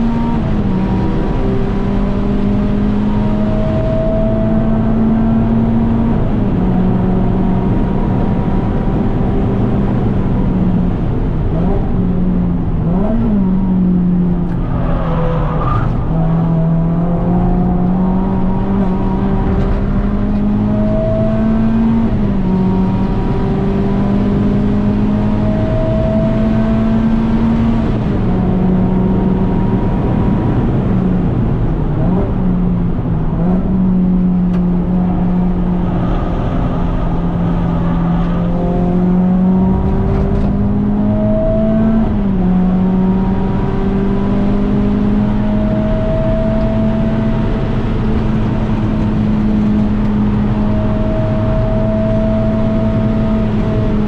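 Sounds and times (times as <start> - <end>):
car engine revving high: 0.0 - 54.0.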